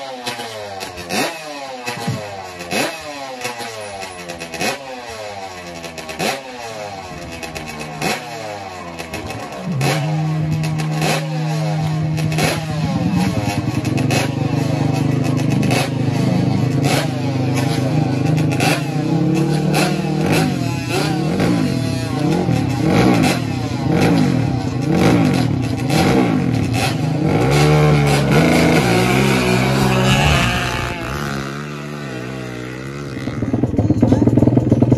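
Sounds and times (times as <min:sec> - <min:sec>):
atv engines revving: 0:00.0 - 0:34.9.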